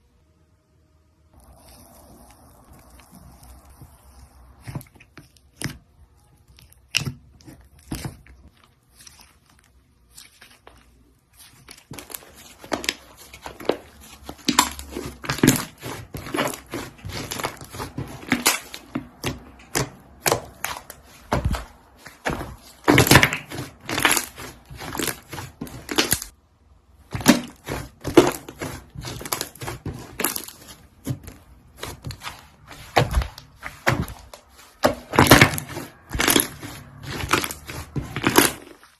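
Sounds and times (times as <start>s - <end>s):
slime squished by hand: 1.4s - 38.9s.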